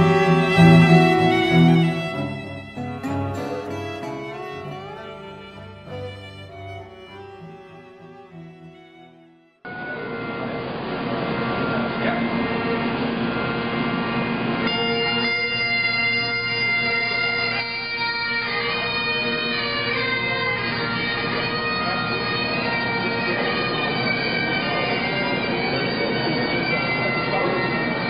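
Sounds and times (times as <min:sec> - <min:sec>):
bagpipes playing slow tune: 0:00.0 - 0:10.3, 0:14.7 - 0:28.0.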